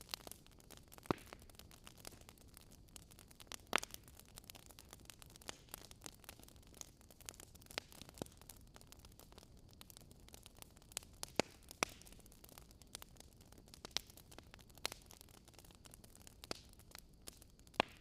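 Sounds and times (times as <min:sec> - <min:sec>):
loud fire pops: 0:00.0 - 0:08.6, 0:09.3 - 0:18.0
wood fire crackling: 0:00.0 - 0:18.0.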